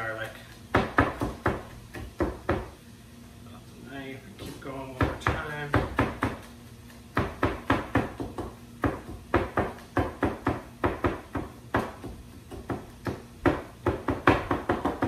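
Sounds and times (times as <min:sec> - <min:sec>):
knife chopping on wooden board: 0:00.6 - 0:02.8, 0:04.4 - 0:15.0.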